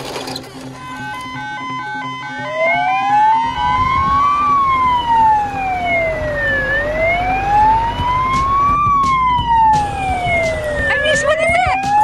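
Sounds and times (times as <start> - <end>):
fire truck siren wailing: 0.6 - 12.0.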